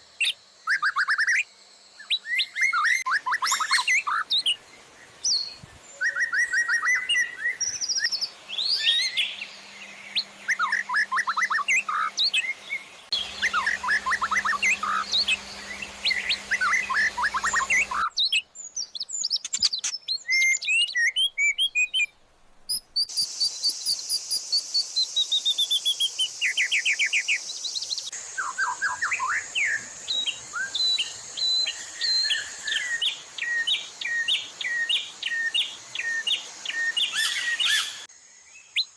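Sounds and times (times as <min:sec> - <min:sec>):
songbird chirps and trills: 0:00.0 - 0:38.9.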